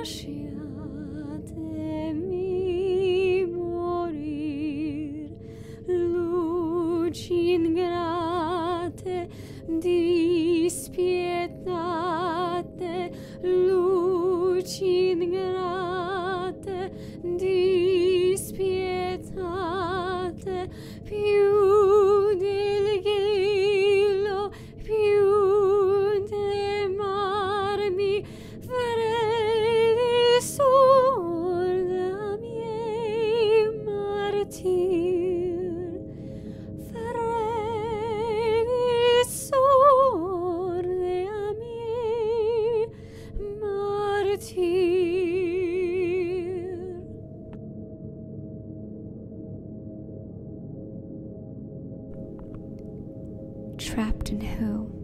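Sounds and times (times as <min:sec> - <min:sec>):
woman singing wordless melody: 0:00.0 - 0:36.2, 0:36.8 - 0:47.2, 0:53.8 - 0:55.0.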